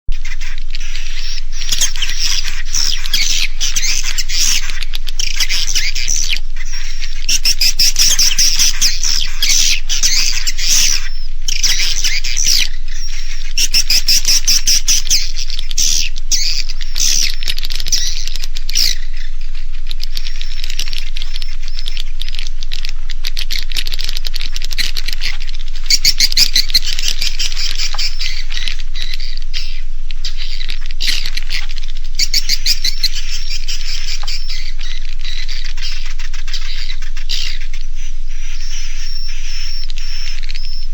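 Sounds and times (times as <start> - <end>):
recorded swiftlet twittering: 0.1 - 40.9.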